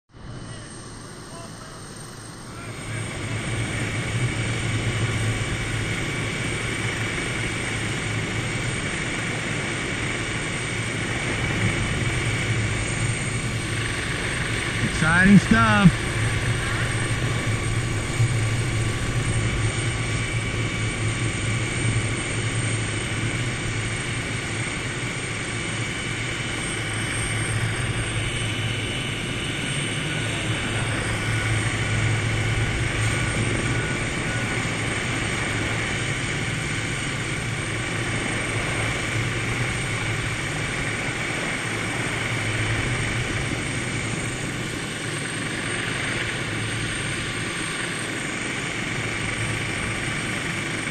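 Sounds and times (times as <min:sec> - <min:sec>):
helicopter turbine and rotor drone: 0:00.1 - 0:50.9.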